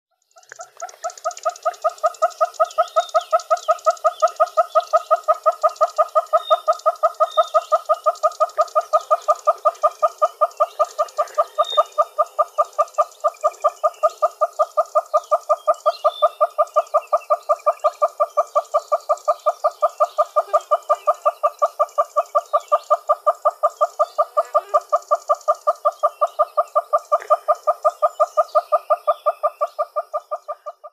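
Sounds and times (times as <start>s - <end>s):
hornbill clucking calls: 0.2s - 30.9s.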